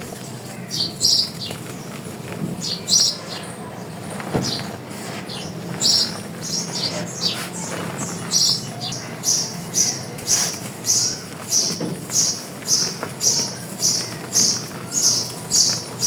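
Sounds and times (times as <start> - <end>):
dry chalk crunching: 0.0 - 16.0.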